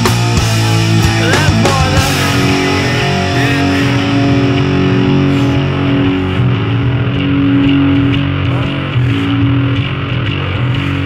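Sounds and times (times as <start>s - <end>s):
heavy rock band playing: 0.0s - 11.0s
low guitar note ringing: 0.6s - 11.0s.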